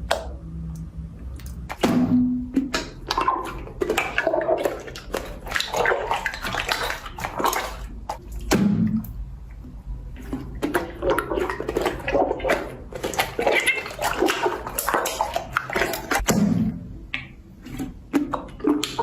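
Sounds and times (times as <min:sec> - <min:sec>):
slime squelching: 0:00.0 - 0:19.0.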